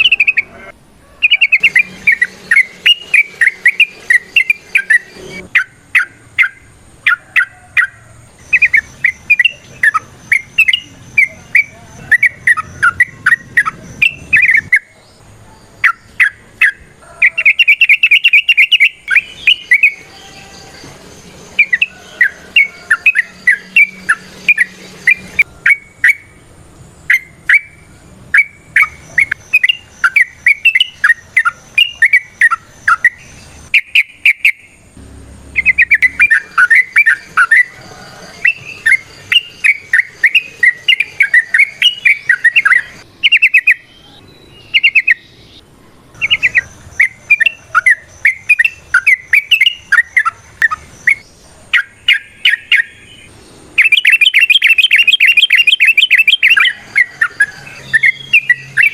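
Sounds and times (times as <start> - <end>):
bulbul chattering song: 0.0 - 58.9.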